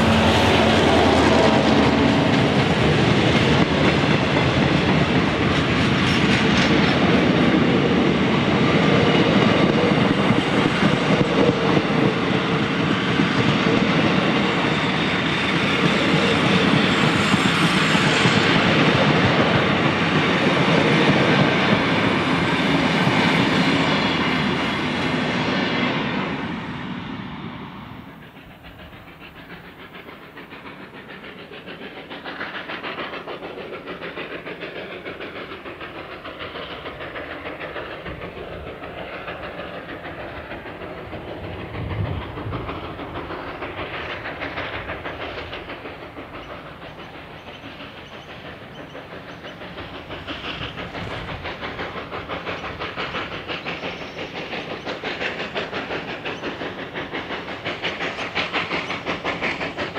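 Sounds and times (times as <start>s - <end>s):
steam hissing: 0.0s - 59.9s
steam locomotive exhaust beats: 0.0s - 59.9s.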